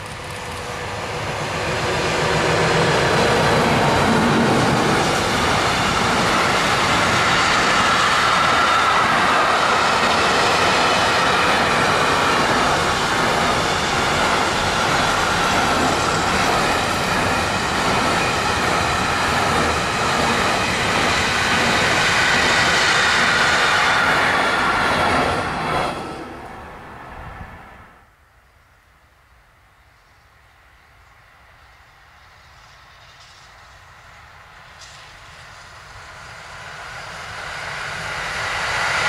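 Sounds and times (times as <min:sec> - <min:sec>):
train wheels rumbling on rail: 0:00.0 - 0:27.9, 0:29.9 - 0:39.0.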